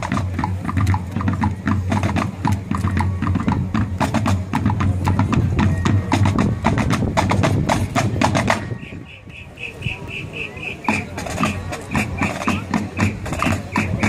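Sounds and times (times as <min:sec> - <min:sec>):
marching drum line: 0:00.0 - 0:14.0.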